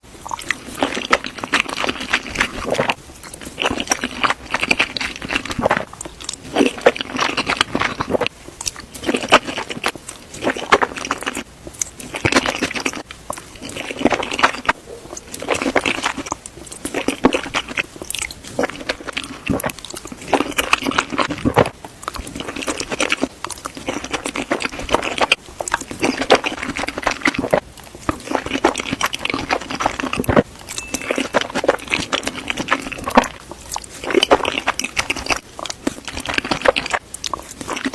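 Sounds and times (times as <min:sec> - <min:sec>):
person chewing food: 0:00.1 - 0:37.9.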